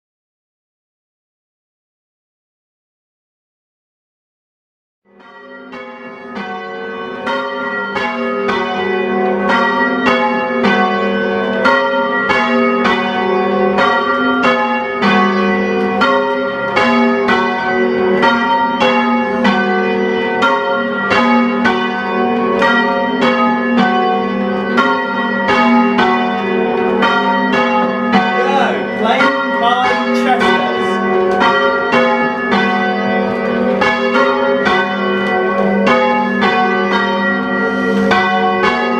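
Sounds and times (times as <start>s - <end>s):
church bells change ringing: 5.1s - 38.9s.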